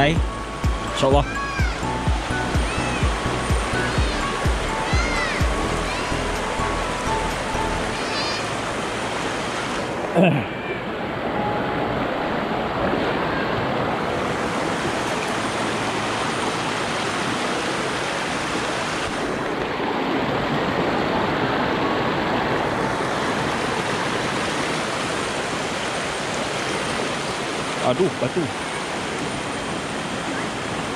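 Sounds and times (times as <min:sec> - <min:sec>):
river rushing over stones: 0:00.0 - 0:30.9.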